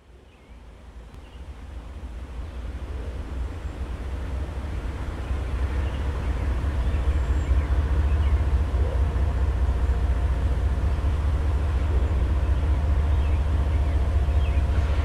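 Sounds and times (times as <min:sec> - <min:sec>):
diesel freight train rumble: 0:00.0 - 0:15.0
faint steady tones: 0:00.0 - 0:15.0.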